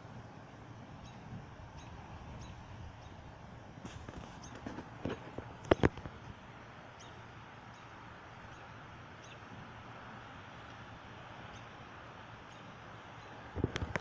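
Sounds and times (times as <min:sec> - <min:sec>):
faint wind noise: 0:00.0 - 0:14.0.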